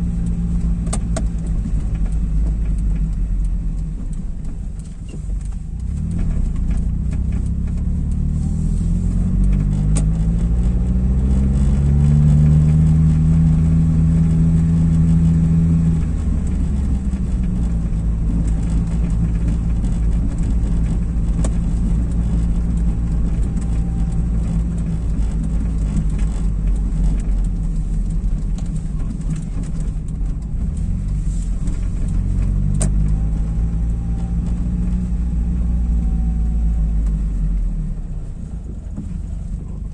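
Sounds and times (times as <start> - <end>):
car engine accelerating: 0.0 - 39.9
road noise inside car: 0.0 - 39.9.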